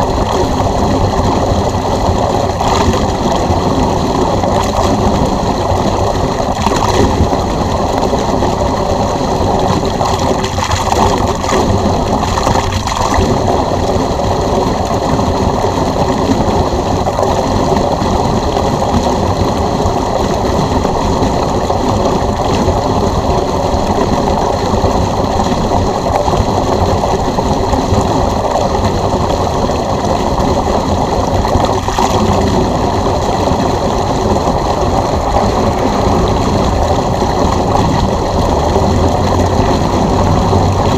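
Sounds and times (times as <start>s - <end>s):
pool pump running: 0.0s - 40.9s
water rushing from drain hose: 0.0s - 40.9s.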